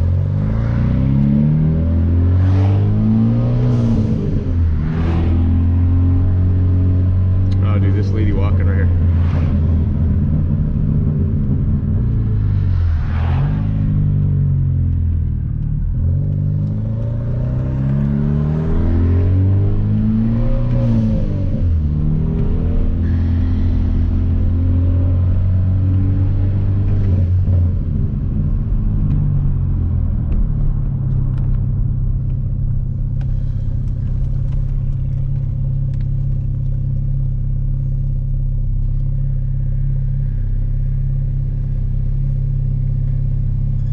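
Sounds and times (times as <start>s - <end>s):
turbocharged car engine and exhaust: 0.0s - 43.9s.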